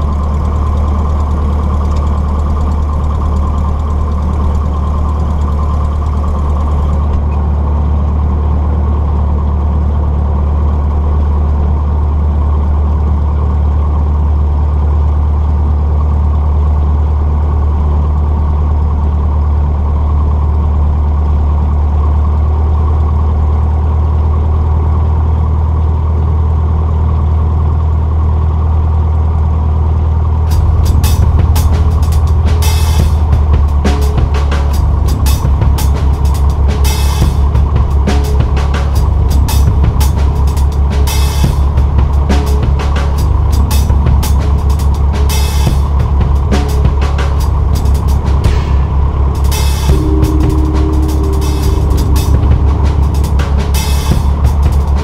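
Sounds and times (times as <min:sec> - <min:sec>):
airplane engine droning: 0:00.0 - 0:25.0, 0:30.2 - 0:55.0.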